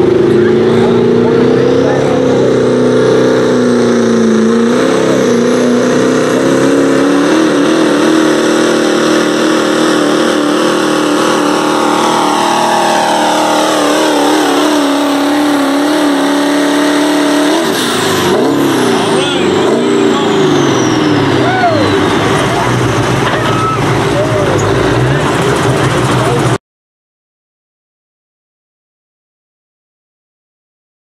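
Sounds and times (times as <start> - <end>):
pickup engine at full throttle: 0.0 - 26.6.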